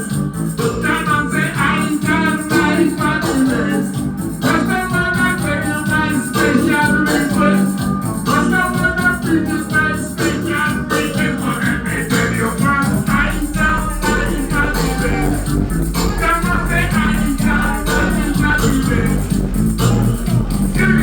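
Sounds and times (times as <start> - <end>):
reggae music over sound system: 0.0 - 21.0.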